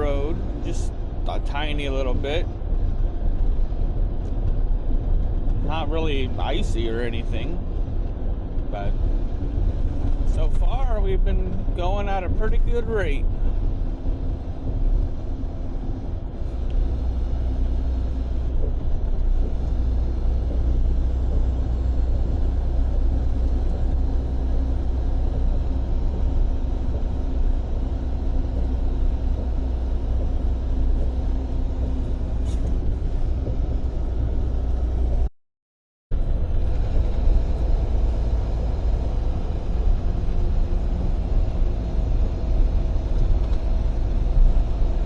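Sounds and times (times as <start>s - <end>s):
constant hum: 0.0s - 35.3s, 36.1s - 45.0s
truck engine and road rumble: 0.0s - 35.3s, 36.1s - 45.0s.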